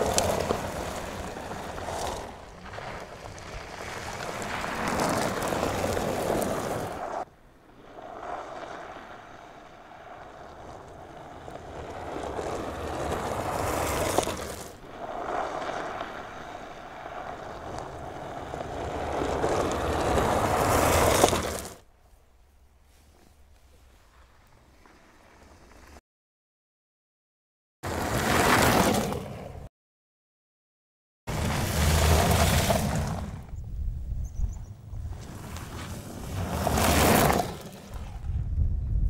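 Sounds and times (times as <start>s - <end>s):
tyres on loose gravel: 0.0s - 26.0s, 27.9s - 29.6s, 31.3s - 38.6s.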